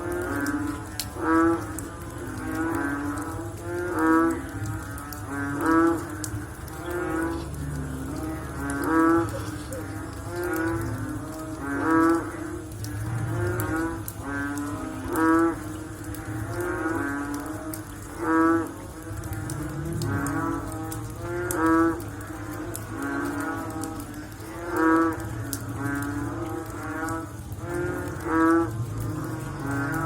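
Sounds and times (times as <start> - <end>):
frogs croaking: 0.0 - 30.0.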